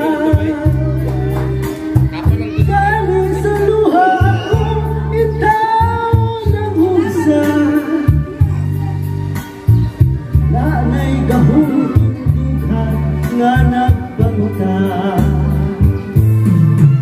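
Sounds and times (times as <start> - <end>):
man singing into a microphone: 0.0 - 8.8, 10.3 - 17.0
backing music with bass line: 0.0 - 17.0.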